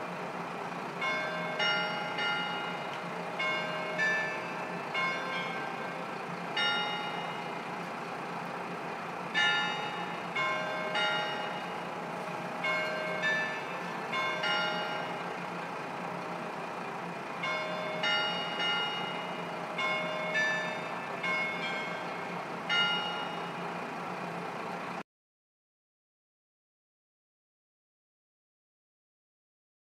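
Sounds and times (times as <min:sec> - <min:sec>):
diesel railcar engine hum: 0:00.0 - 0:25.0.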